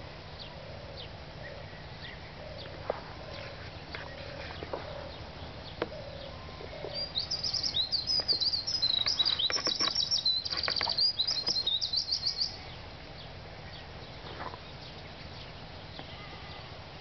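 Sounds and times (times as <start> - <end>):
low background noise: 0.0 - 17.0
songbird singing: 0.0 - 17.0.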